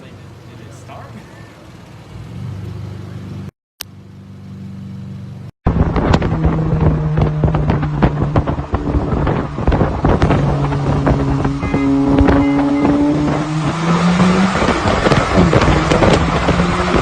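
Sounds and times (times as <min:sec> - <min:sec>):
engine crackle: 0:00.0 - 0:17.0
car engine accelerating: 0:00.1 - 0:17.0.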